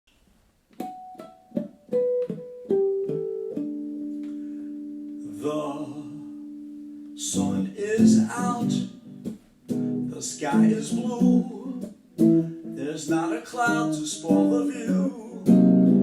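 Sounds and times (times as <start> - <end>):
guitar strumming: 0.7 - 16.0
guitar plucked notes and chord: 0.8 - 12.9, 13.6 - 16.0.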